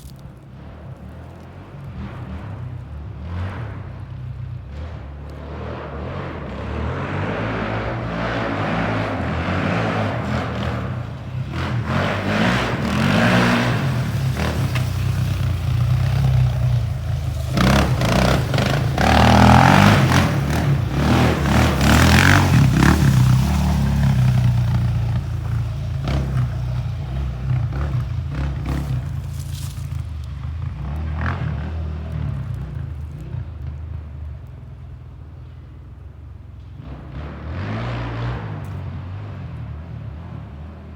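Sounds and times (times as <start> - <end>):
atv engine revving: 1.3 - 34.1, 36.6 - 40.9.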